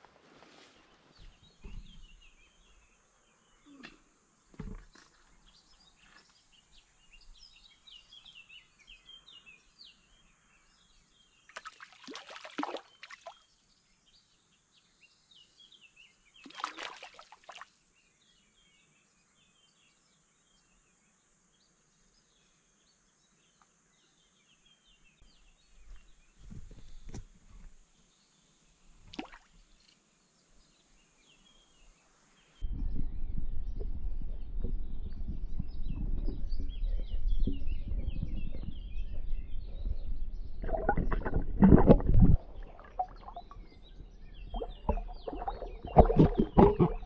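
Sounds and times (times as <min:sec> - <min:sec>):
small birds chirping and singing: 0:00.6 - 0:11.9, 0:12.5 - 0:29.0, 0:29.6 - 0:41.5, 0:42.4 - 0:47.0.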